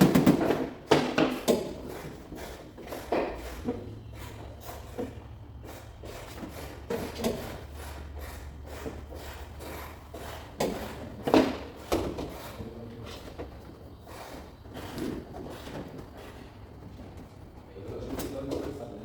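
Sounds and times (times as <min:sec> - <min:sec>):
tools knocking and scraping metal: 0:00.0 - 0:08.1, 0:08.8 - 0:17.4
steady low hum: 0:00.0 - 0:19.0.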